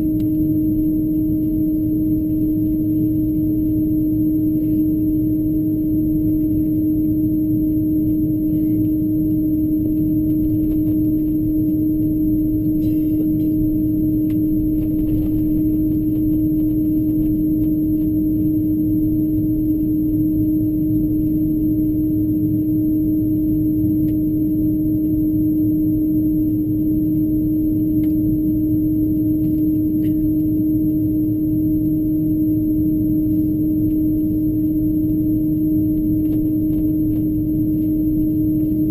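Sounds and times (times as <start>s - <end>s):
airliner cabin rumble and hum: 0.0s - 38.9s.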